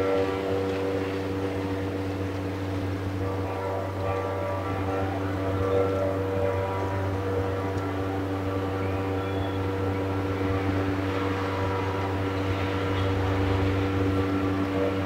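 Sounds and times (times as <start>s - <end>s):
electric guitar drone: 0.0s - 15.0s.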